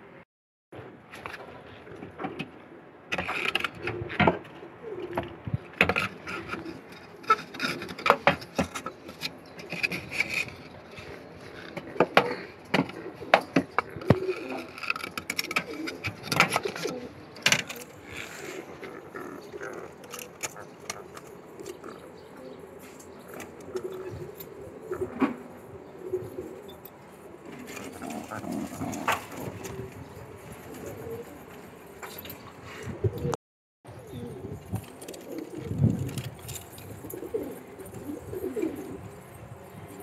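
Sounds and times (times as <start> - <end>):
pigeons cooing: 1.4 - 40.0.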